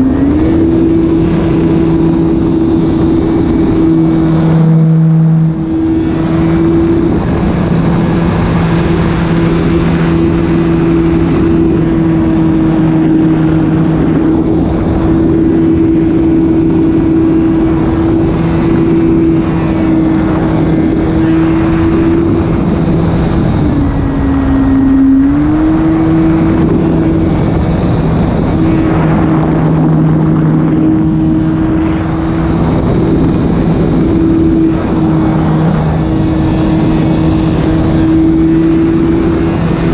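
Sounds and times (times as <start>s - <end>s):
airflow noise: 0.0s - 39.9s.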